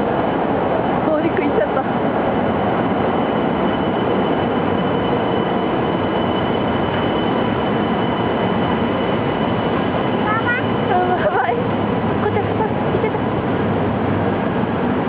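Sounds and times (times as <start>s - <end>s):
train interior running noise: 0.0s - 15.0s.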